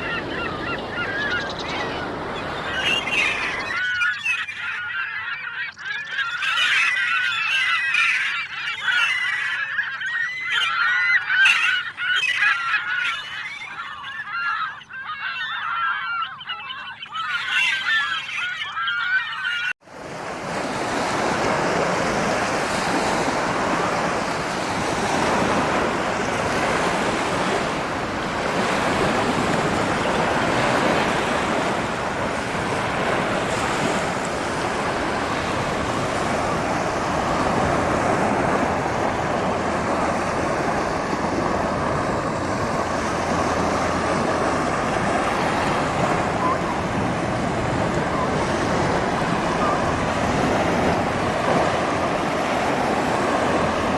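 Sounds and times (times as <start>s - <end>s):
ocean waves breaking: 0.0s - 10.1s, 19.8s - 53.9s.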